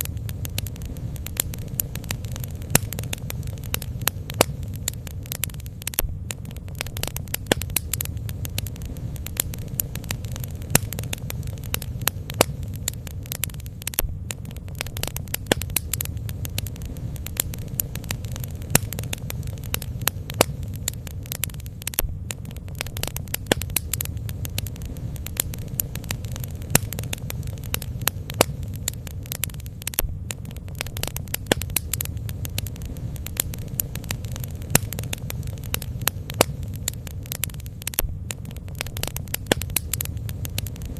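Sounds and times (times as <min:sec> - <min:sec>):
fire crackling and popping: 0:00.0 - 0:40.9
low rumble: 0:00.0 - 0:40.9.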